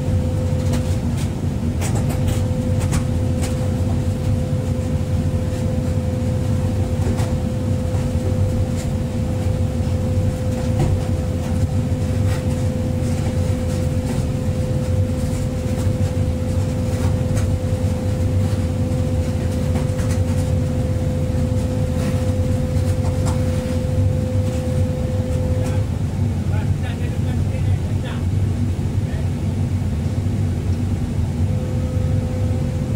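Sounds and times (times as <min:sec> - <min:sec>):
excavator diesel engine running: 0:00.0 - 0:32.9
steady whine: 0:00.0 - 0:32.9.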